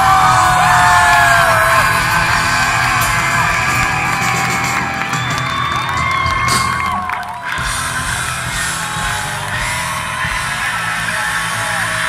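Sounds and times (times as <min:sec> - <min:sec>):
crowd whooping and cheering: 0:00.0 - 0:12.0
electric guitar: 0:00.0 - 0:12.0
live rock band playing: 0:00.0 - 0:12.0.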